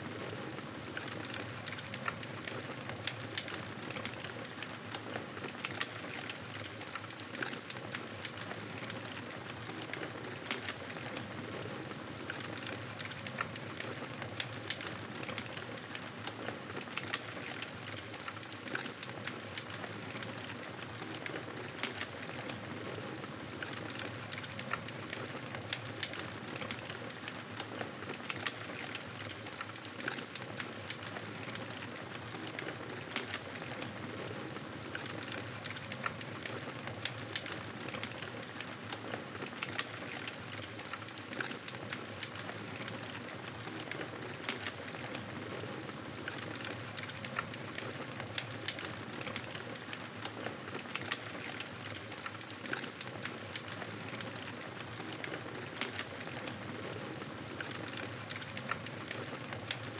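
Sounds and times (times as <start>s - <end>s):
campfire crackling and hissing: 0.1s - 59.9s.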